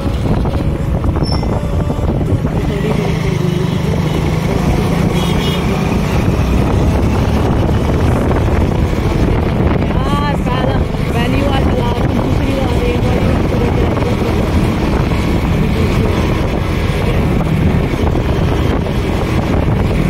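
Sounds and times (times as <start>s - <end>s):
motorcycle engine: 0.0s - 20.0s
road noise: 0.0s - 20.0s.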